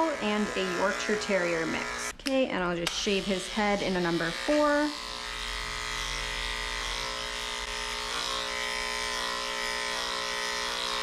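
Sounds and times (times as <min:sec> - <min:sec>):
electric clippers humming: 0:00.0 - 0:02.2, 0:02.9 - 0:11.0.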